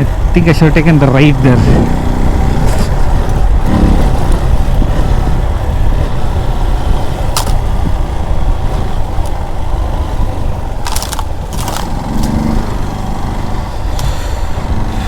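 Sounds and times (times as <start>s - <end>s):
motorcycle engine running: 0.0s - 15.0s
wind rumble on microphone: 1.4s - 15.0s.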